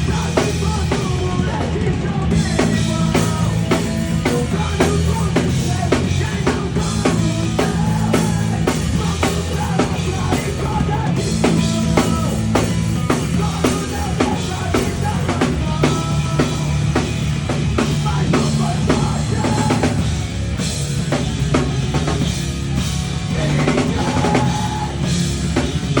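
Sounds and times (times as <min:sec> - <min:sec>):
backing track with bass: 0:00.0 - 0:26.0
drum kit playing: 0:00.0 - 0:26.0.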